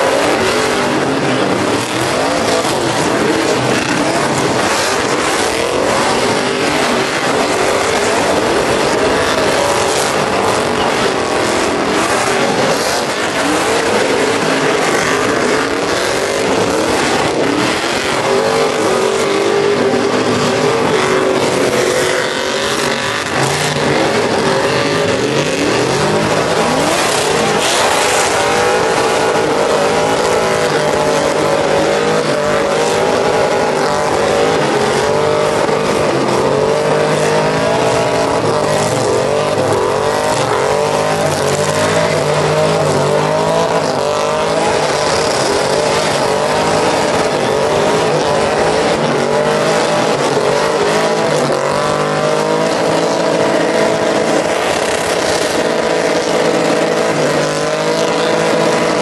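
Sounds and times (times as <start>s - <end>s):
truck engines revving high: 0.0s - 59.0s.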